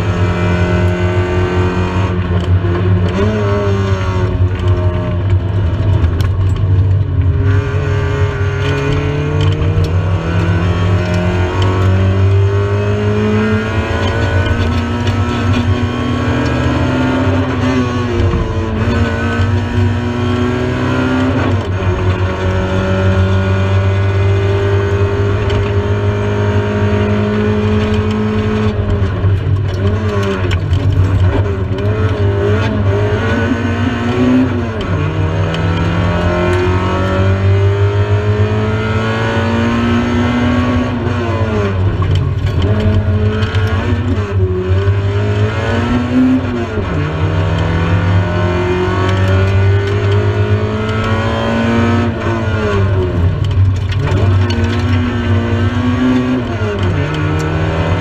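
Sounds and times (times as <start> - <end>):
rally car engine revving: 0.0 - 58.0
road and drivetrain hum: 0.0 - 58.0.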